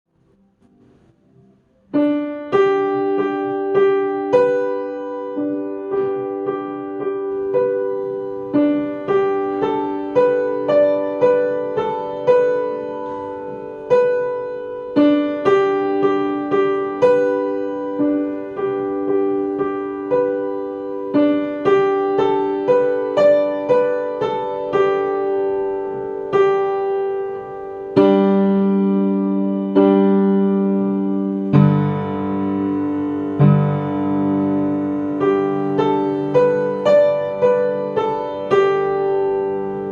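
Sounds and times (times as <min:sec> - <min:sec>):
piano melody: 0:00.1 - 0:39.9.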